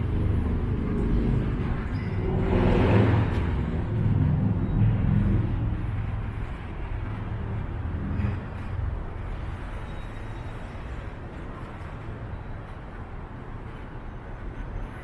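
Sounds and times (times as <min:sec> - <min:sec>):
city traffic noise: 0:00.0 - 0:15.0
passing vehicle engine rumble: 0:00.0 - 0:15.0.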